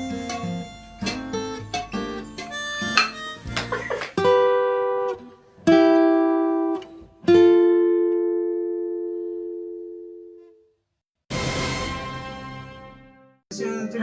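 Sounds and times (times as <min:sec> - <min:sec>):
acoustic guitar playing: 0:00.0 - 0:10.6, 0:11.3 - 0:14.0.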